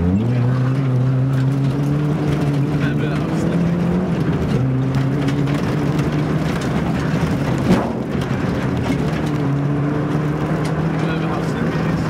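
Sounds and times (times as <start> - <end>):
car engine running hard: 0.0 - 12.0
road and tyre noise: 0.0 - 12.0.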